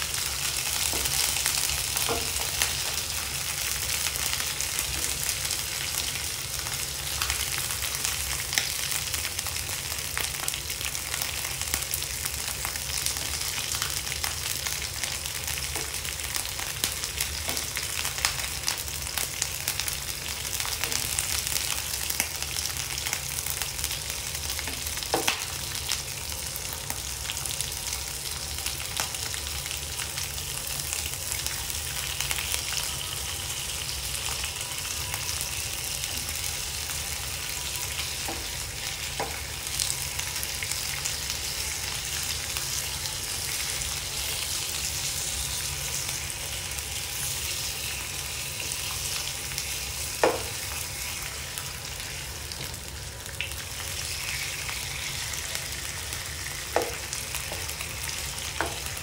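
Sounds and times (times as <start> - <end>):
pork sizzling in oil: 0.0 - 59.0.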